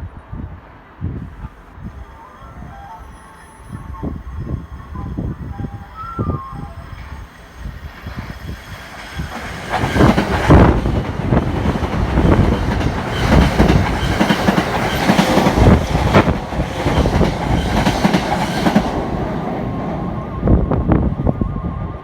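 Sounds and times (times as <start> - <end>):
train wheels clacking on rails: 1.2 - 20.1.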